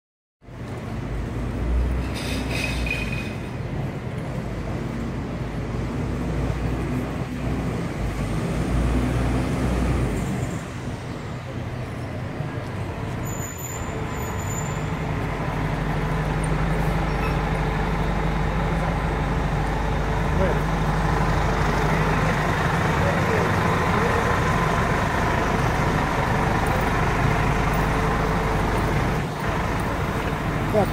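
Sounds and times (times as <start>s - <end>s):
city street traffic: 0.4s - 30.9s
fire engine diesel rumbling: 0.5s - 30.9s.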